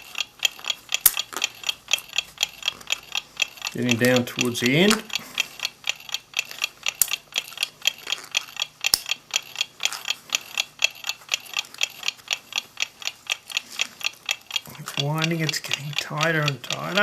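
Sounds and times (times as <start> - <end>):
clock ticking: 0.0 - 17.0.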